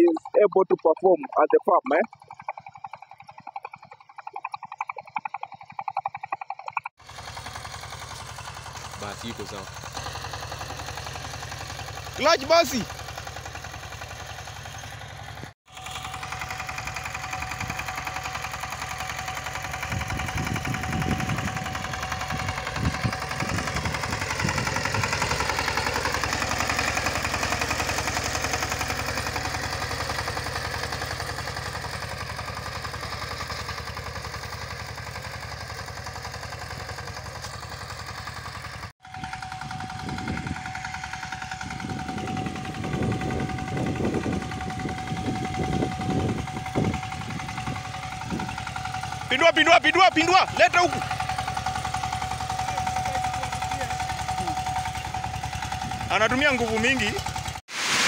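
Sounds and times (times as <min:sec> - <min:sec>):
walking tractor engine knocking: 0:00.0 - 0:57.6.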